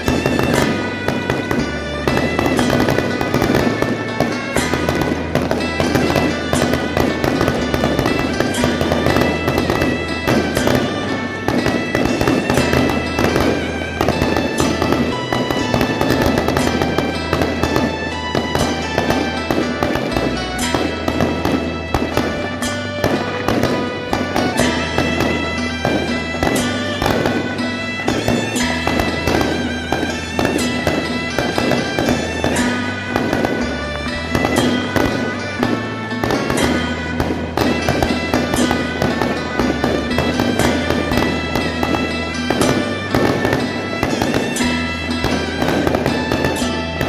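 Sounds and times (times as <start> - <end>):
firecracker crackle: 0.0 - 47.0.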